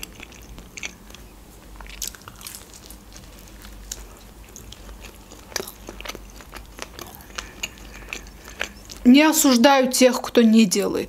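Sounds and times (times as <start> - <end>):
chewing with wet mouth clicks: 0.0 - 9.1.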